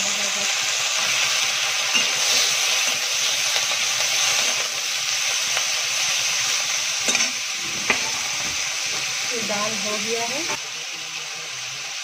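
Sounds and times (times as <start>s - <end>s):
cheese cubes sizzling in oil: 0.0s - 12.0s.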